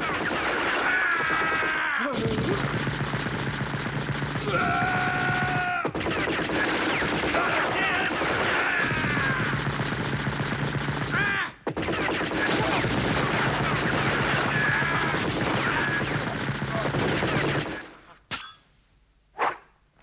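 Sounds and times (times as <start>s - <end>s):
cartoon automatic gunfire: 0.0s - 18.0s.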